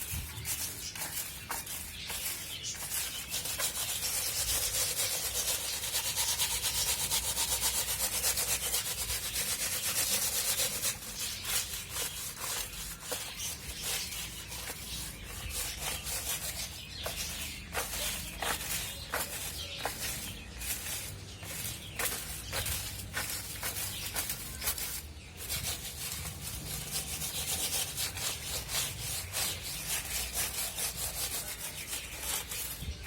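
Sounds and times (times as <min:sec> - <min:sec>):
scrapes and knocks: 0:00.0 - 0:33.0
scrubbing plastic tray: 0:00.0 - 0:33.0.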